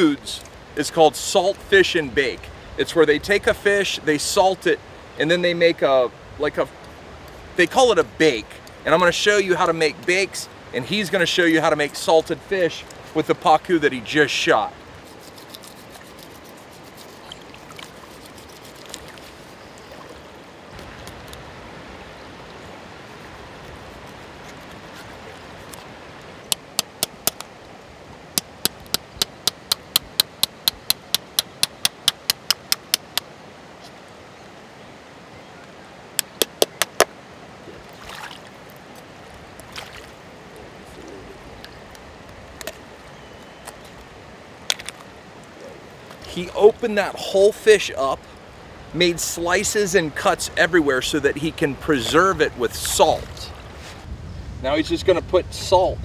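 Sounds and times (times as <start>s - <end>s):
river water lapping: 6.8s - 34.2s, 34.8s - 54.1s.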